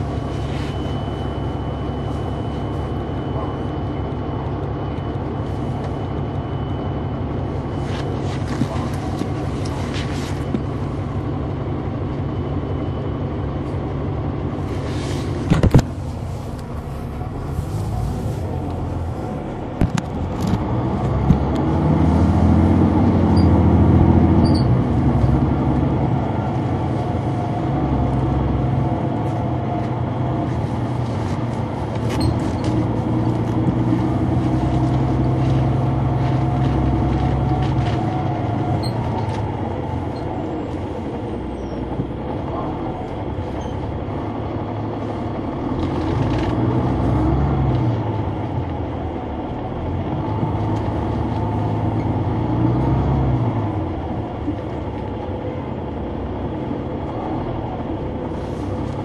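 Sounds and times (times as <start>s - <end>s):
bus diesel engine: 0.0s - 59.0s
bus rattles and clicks: 0.0s - 59.0s.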